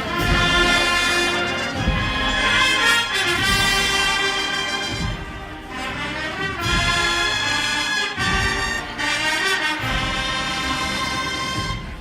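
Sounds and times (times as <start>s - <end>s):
brass and drum band marching: 0.0s - 12.0s.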